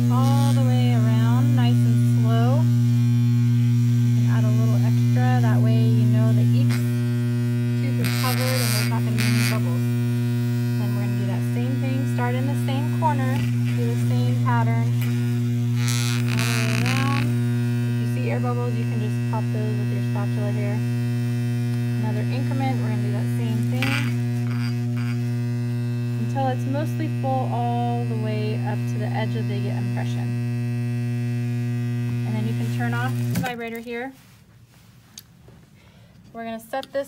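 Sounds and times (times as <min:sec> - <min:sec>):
vibrator machine low buzz: 0:00.0 - 0:34.1.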